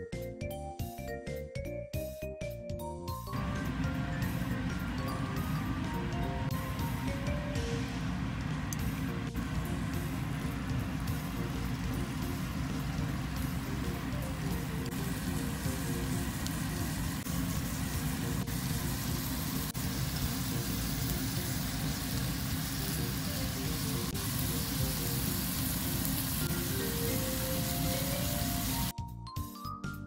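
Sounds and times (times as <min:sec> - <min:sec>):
light background music: 0:00.0 - 0:30.0
food sizzling in hot oil: 0:03.3 - 0:28.9.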